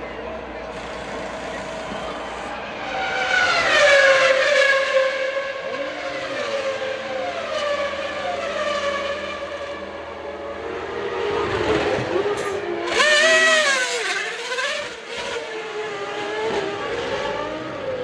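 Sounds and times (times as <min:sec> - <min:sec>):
racing car engines at high revs: 0:00.5 - 0:18.0.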